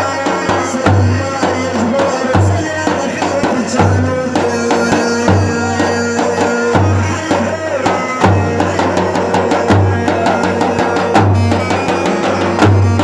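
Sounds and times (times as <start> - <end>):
heavy bass drum beat: 0.0 - 13.0
party music melody: 0.0 - 13.0
hand drum hits: 0.3 - 13.0.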